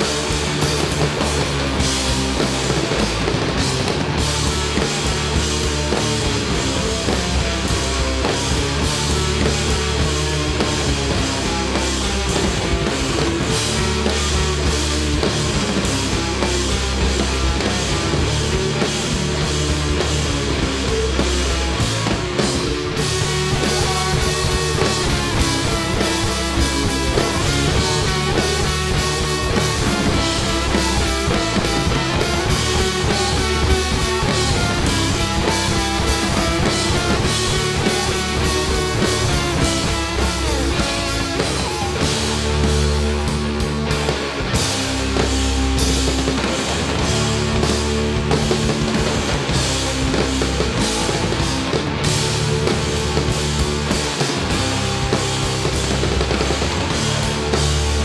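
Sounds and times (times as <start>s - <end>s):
drum kits: 0.0s - 58.0s
electric bass: 0.0s - 58.0s
electric guitars: 0.0s - 58.0s.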